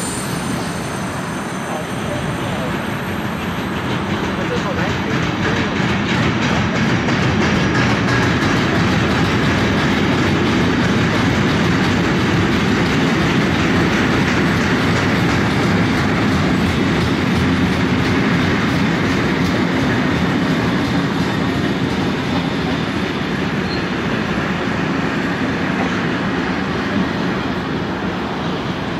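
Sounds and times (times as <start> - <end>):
freight train rolling past: 0.0 - 28.9.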